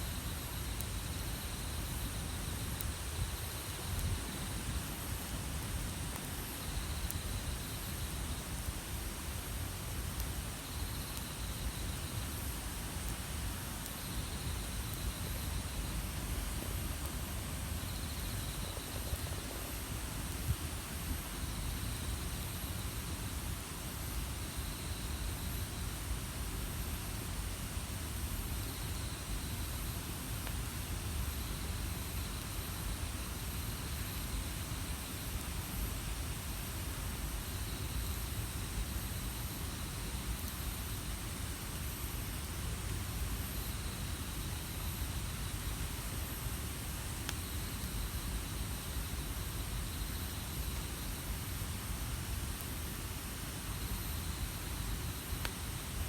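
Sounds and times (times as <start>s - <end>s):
high steady hiss: 0.0s - 56.0s
campfire burning: 0.1s - 56.0s.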